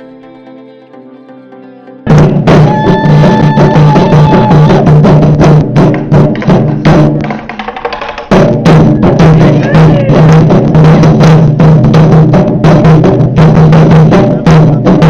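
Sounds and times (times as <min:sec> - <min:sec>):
taiko drums playing: 0:02.1 - 0:15.0.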